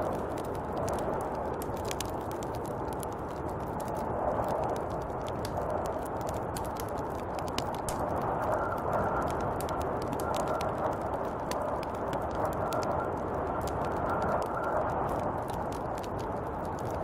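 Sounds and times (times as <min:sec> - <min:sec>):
small crackling clicks: 0:00.0 - 0:17.0
snowstorm wind blowing: 0:00.0 - 0:17.0.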